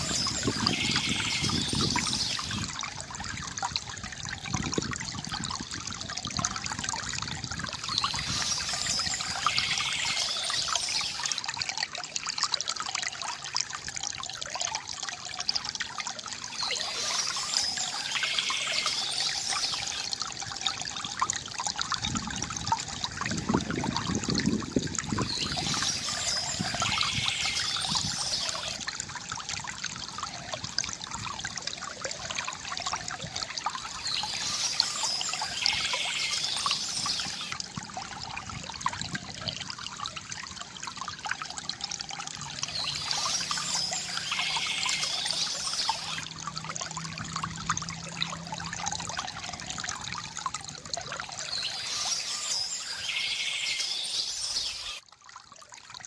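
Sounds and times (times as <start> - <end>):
fountain water trickling: 0.0 - 56.0.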